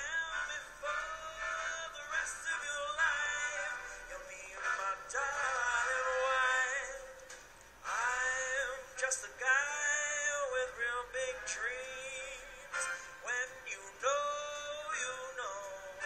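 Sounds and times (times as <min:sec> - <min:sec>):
man singing wordless notes: 0:00.0 - 0:16.0.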